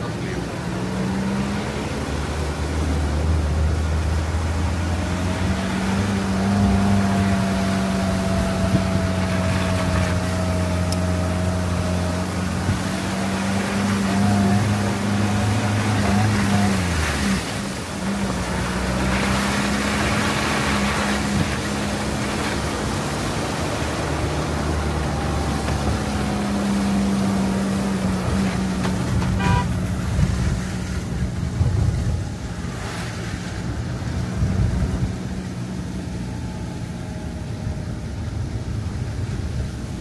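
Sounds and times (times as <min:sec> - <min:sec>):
diesel engine running: 0:00.0 - 0:40.0
road and tyre noise: 0:00.0 - 0:40.0.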